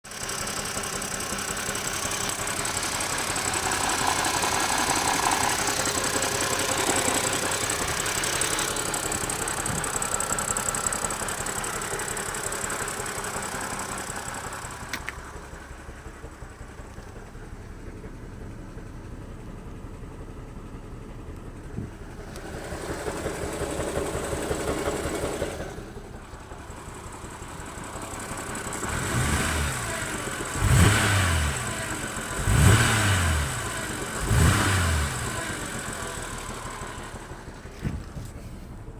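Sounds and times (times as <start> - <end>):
car engine running: 0.1 - 38.9.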